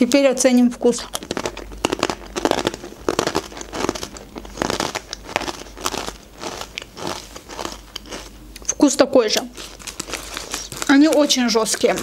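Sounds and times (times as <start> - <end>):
crunchy chewing: 0.9 - 12.0.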